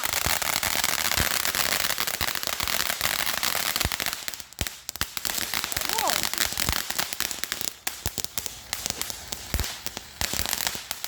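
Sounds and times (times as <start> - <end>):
fountain firework hissing and popping: 0.0 - 11.0.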